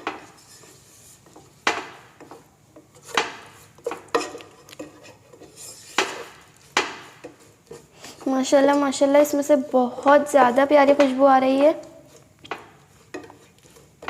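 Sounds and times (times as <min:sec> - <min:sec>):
spoon scraping a pan: 0:00.0 - 0:14.0.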